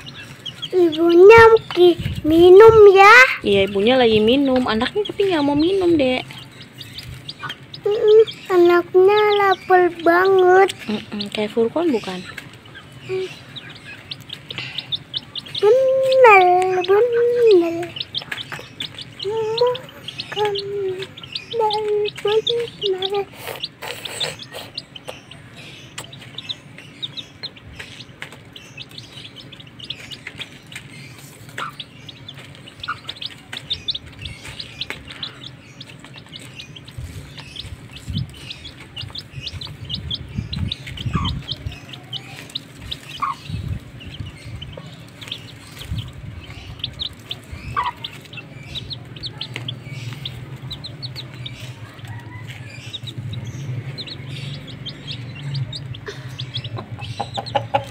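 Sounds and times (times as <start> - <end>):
chicks peeping: 0.0 - 57.9
hen clucking: 0.0 - 57.9.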